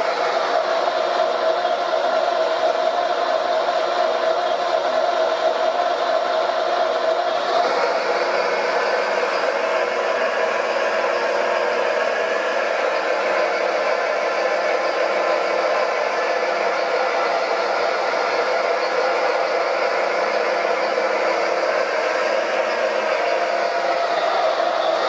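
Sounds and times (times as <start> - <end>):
model loader motors whirring: 0.0 - 25.0.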